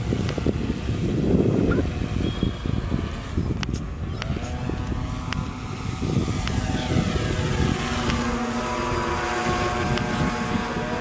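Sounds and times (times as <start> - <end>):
constant low rumble: 0.0 - 11.0
model airplane propeller whining: 0.0 - 11.0.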